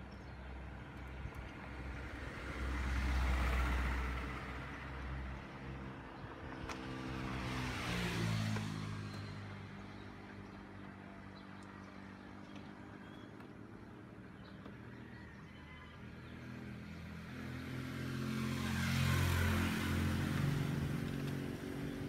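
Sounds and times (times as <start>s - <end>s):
vehicles driving past: 0.0s - 22.0s.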